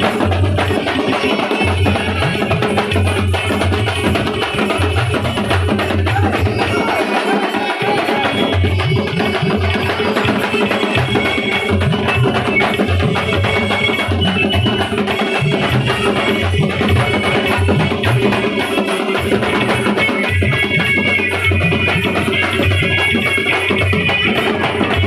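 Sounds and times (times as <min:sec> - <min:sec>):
drum band drumming: 0:00.0 - 0:25.0.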